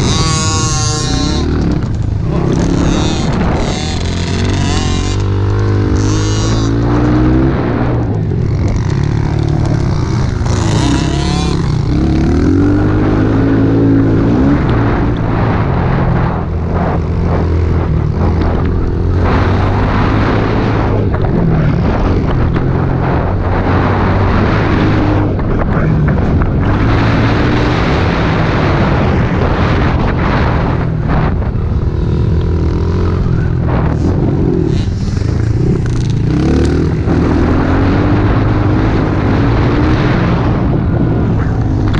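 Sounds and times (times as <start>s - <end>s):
small motorbike engines revving: 0.0s - 41.9s.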